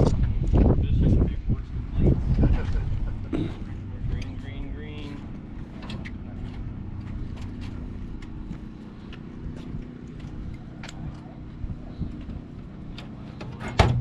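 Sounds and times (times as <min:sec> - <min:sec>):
machine engine humming: 0:00.0 - 0:14.0.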